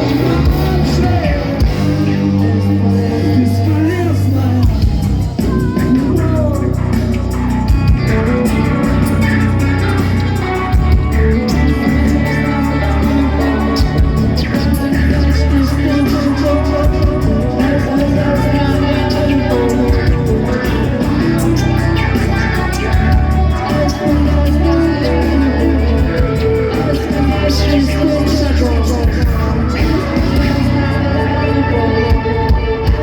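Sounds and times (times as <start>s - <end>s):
person singing or shouting: 0.0s - 33.0s
rock band playing: 0.0s - 33.0s.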